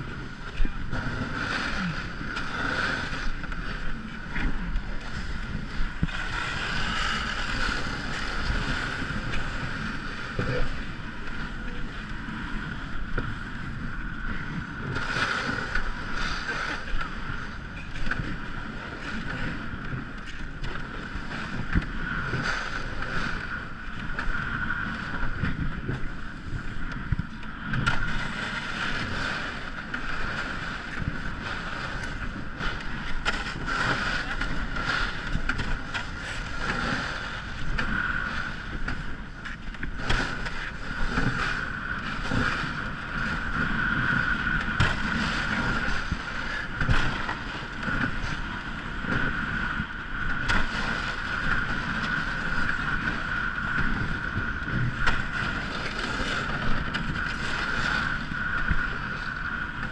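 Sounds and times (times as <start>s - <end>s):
water noise: 0.0s - 59.9s
wind on microphone: 0.0s - 59.9s.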